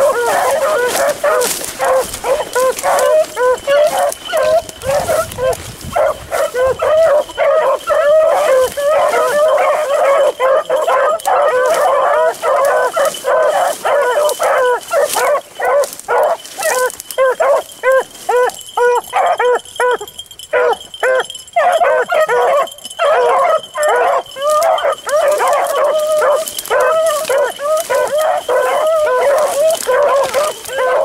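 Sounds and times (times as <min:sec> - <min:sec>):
dogs baying: 0:00.0 - 0:31.0.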